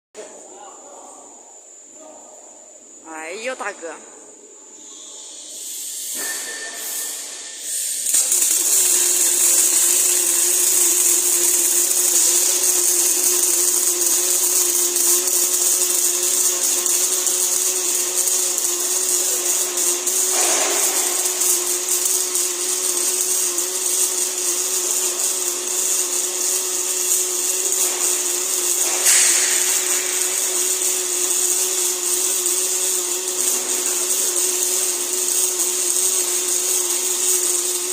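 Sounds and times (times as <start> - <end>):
welding arc hiss: 4.7 - 37.9
machine hum: 5.4 - 37.9.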